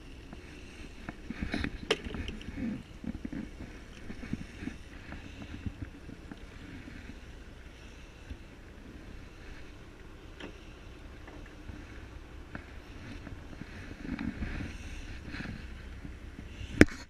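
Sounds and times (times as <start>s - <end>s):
low rumble: 0.0s - 16.9s
wind: 0.0s - 17.0s.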